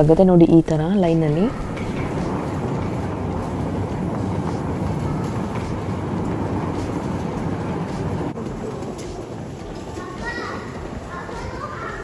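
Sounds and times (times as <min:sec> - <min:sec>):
suitcase wheels rolling on tiles: 0:01.4 - 0:12.0.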